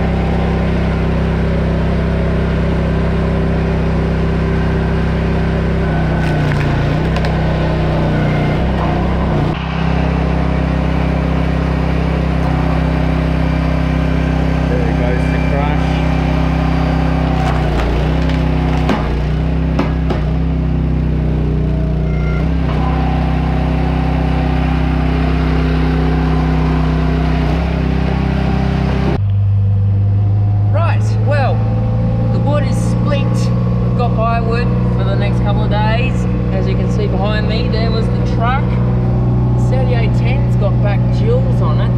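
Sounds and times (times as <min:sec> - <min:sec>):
vehicle engine droning: 0:00.0 - 0:41.9.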